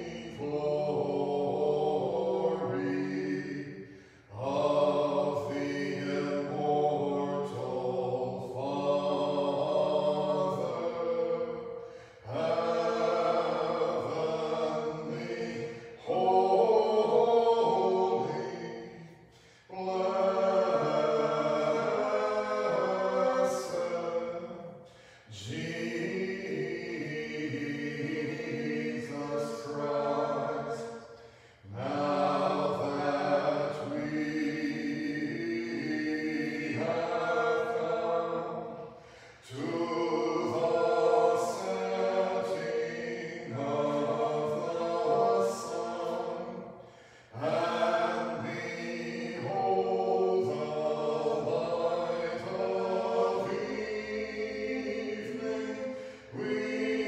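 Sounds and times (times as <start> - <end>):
choir chanting a cappella: 0.0 - 57.0.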